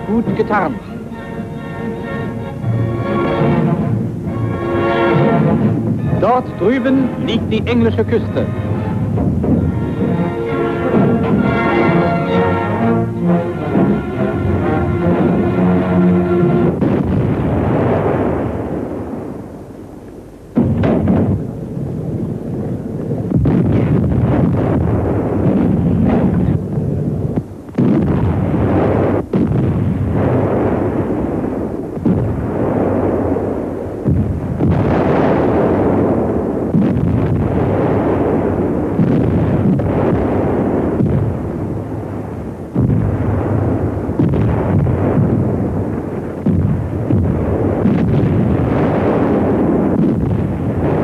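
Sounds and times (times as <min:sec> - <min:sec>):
artillery booms rumbling: 0:02.5 - 0:19.8, 0:20.5 - 0:51.0.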